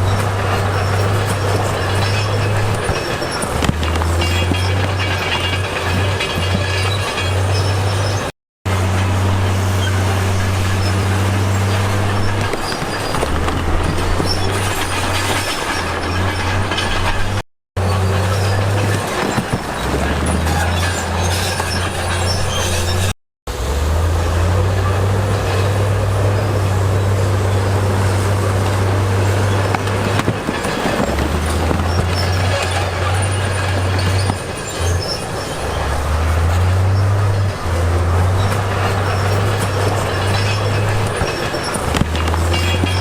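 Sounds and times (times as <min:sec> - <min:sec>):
noisy clatter: 0:00.0 - 0:23.2, 0:24.7 - 0:43.0
heavy diesel engine under load: 0:00.0 - 0:43.0.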